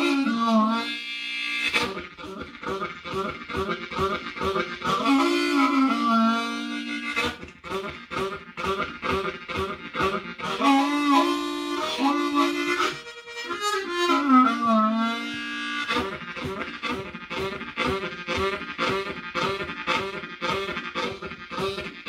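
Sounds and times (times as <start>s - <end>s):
blues harmonica imitating a train: 0.0s - 22.0s.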